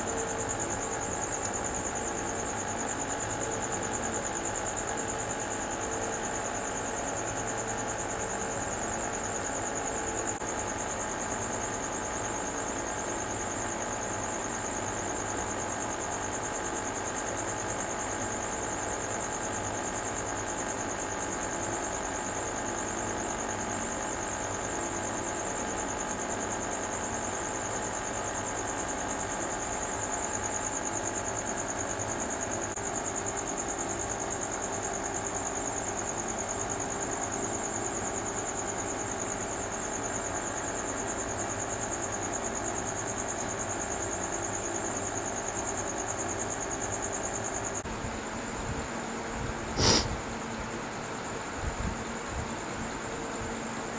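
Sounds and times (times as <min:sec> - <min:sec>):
aquarium air pump humming: 0:00.0 - 0:53.9.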